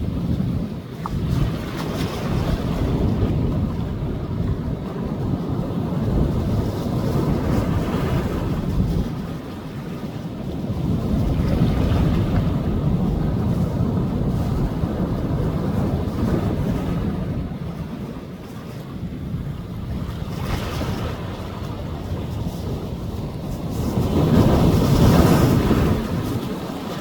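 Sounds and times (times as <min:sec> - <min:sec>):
sea waves washing onto beach: 0:00.0 - 0:27.0
wind rumbling on microphone: 0:00.0 - 0:27.0.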